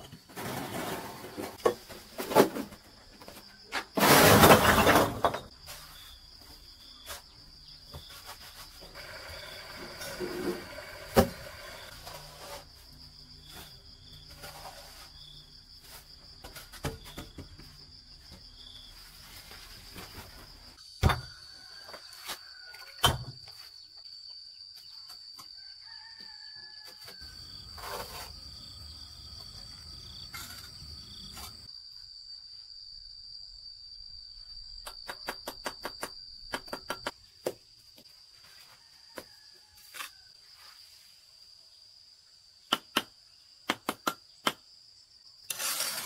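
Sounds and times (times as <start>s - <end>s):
crickets trilling: 0.1s - 46.0s.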